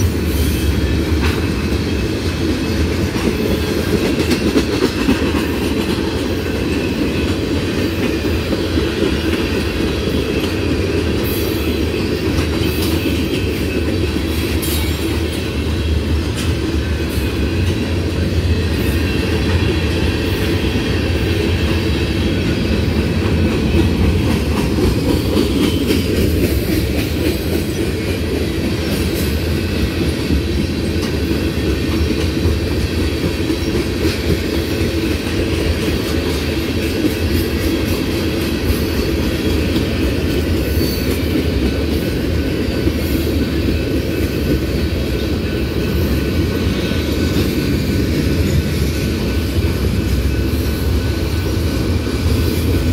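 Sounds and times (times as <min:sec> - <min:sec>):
steel wheels rumbling on rail: 0:00.0 - 0:52.9.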